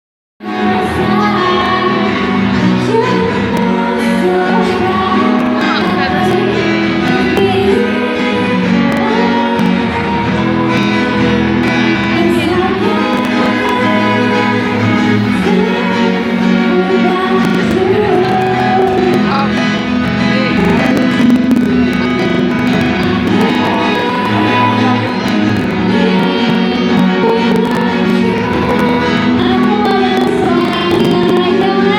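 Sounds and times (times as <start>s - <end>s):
live band music: 0.5s - 31.9s
person singing: 0.5s - 31.9s.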